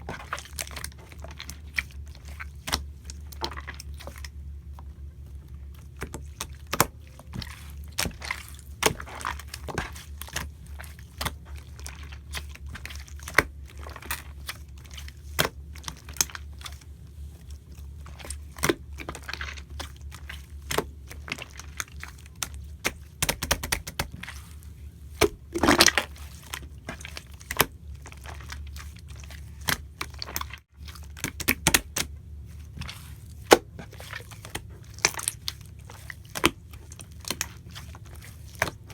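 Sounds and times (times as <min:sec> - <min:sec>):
low steady hum: 0:00.0 - 0:38.9
slime squished by hand: 0:05.7 - 0:38.9.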